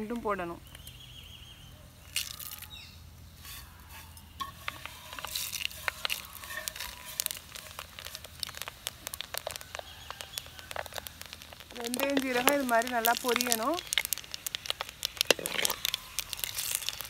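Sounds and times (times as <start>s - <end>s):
seeds sizzling in hot oil: 0.1s - 17.0s
oil popping and crackling: 2.0s - 17.0s.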